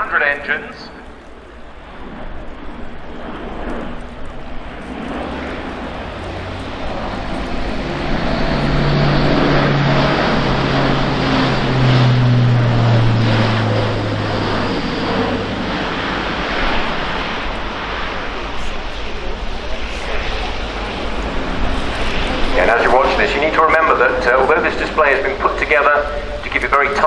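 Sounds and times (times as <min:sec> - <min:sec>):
turboprop aircraft droning: 0:00.0 - 0:27.0.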